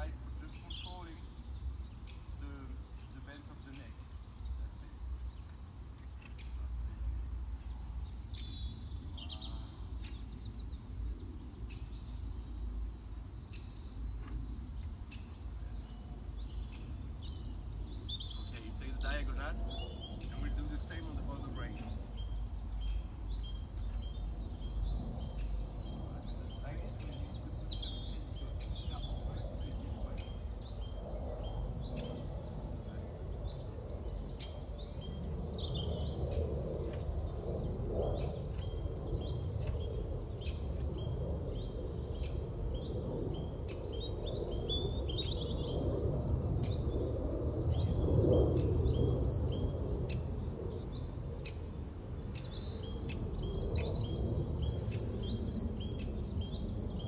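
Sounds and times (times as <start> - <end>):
small birds chirping: 0.0 - 57.0
steady low rumble: 0.0 - 57.0.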